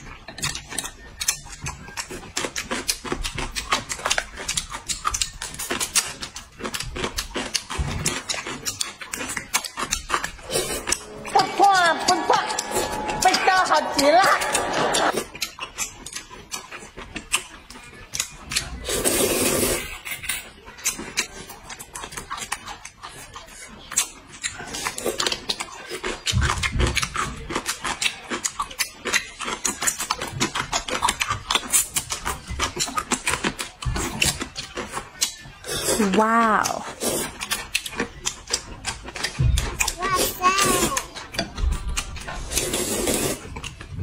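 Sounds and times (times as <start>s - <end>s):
noodles being slurped: 0.0s - 13.6s, 14.6s - 44.0s
chewing: 0.0s - 44.0s.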